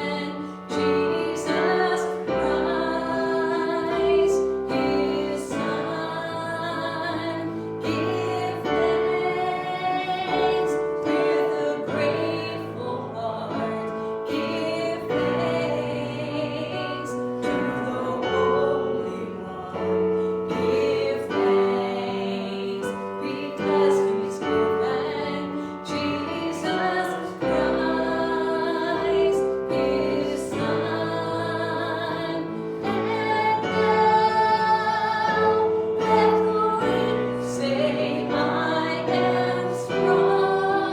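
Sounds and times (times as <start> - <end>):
person singing a hymn: 0.0 - 40.9
piano accompaniment: 0.0 - 40.9.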